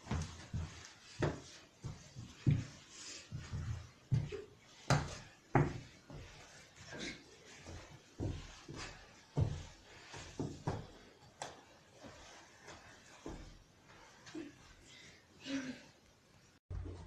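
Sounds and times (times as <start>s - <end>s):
child rolling on rug: 0.0s - 14.8s.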